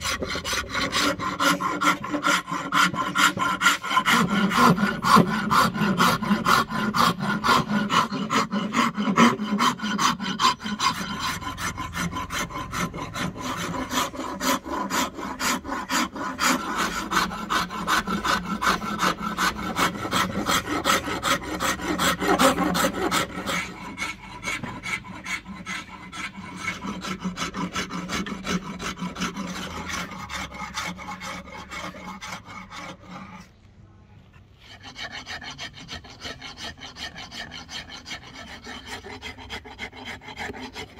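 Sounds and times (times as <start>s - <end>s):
steel file rasping on wood: 0.0s - 33.6s, 34.4s - 40.9s.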